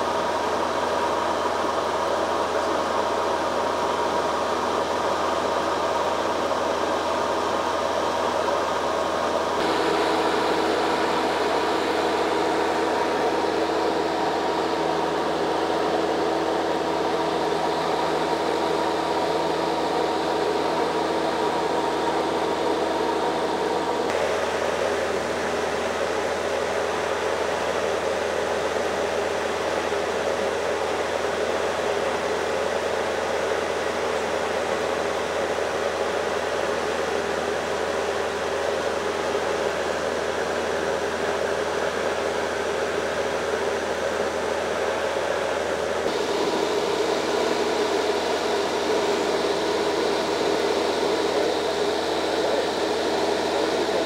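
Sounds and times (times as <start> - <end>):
propeller aircraft cabin drone: 0.0 - 54.0.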